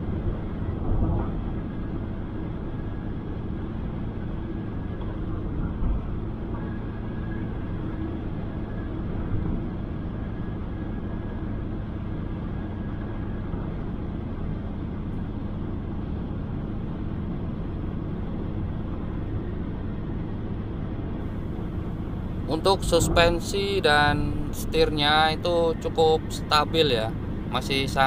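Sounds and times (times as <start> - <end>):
car engine drone: 0.0 - 28.0.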